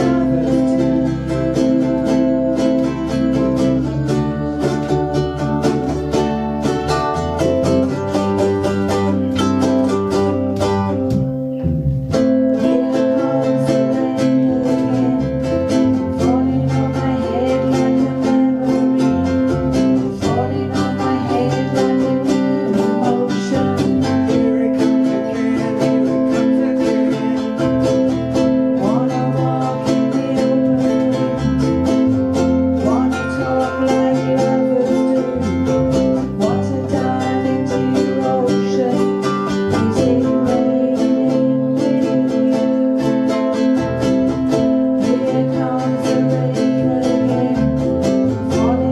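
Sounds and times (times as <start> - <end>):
ukuleles strumming chords: 0.0 - 48.9.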